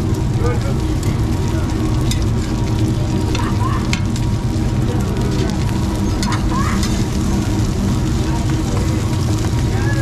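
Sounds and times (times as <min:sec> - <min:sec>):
low rumble: 0:00.0 - 0:10.0
oil sizzling in deep fryer: 0:00.0 - 0:10.0.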